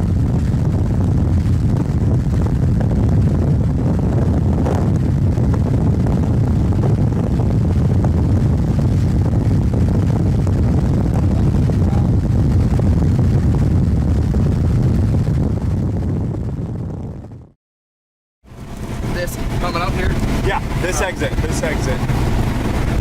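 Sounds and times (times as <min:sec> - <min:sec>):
car driving rumble: 0:00.0 - 0:17.4, 0:18.5 - 0:23.0
wind buffeting microphone: 0:00.0 - 0:17.6, 0:18.5 - 0:23.0.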